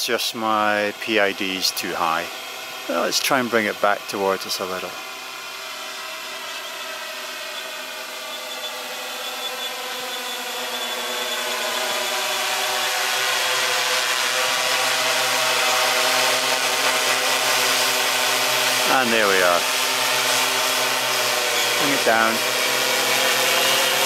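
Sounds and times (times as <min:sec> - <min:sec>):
quadcopter motors buzzing: 0:00.0 - 0:24.0.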